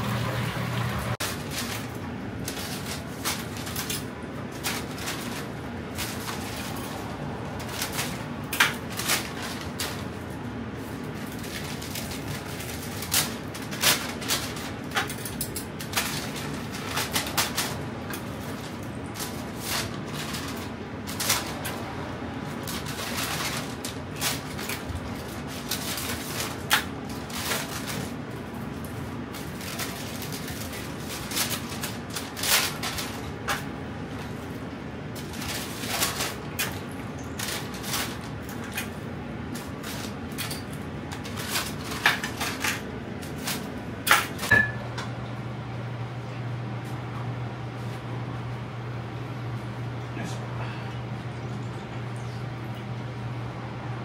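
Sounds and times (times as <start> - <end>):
kitchen hum: 0.0 - 54.0.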